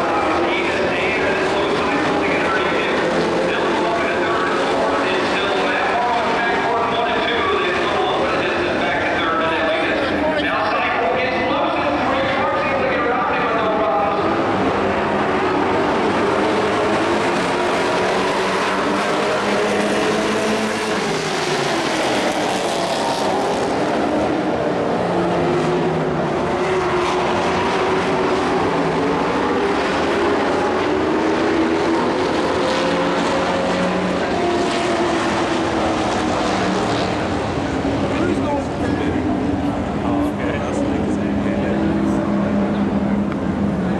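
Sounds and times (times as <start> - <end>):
race truck engines revving: 0.0 - 43.9.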